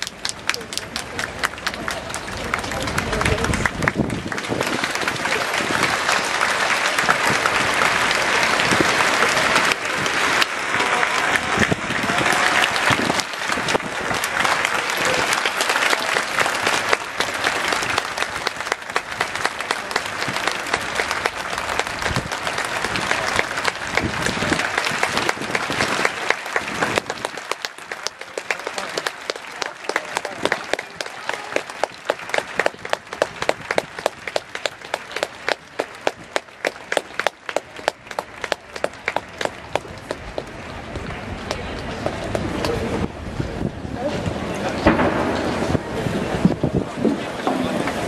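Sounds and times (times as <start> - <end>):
crowd applauding: 0.0 - 43.6
crowd voices: 0.0 - 48.0.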